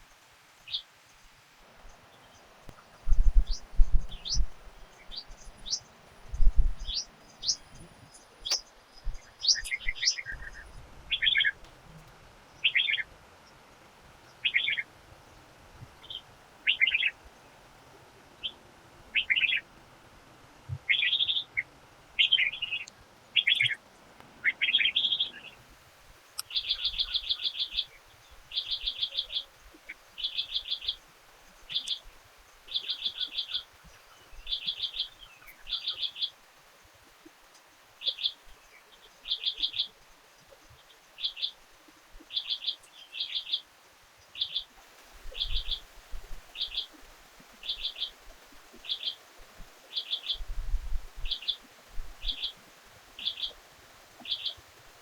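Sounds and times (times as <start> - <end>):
forest birds chirping: 0.0 - 19.8, 20.8 - 55.0.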